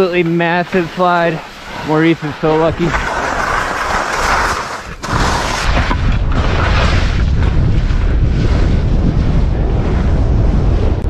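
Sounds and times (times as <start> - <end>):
wind blast buffeting microphone: 0.0 - 11.0.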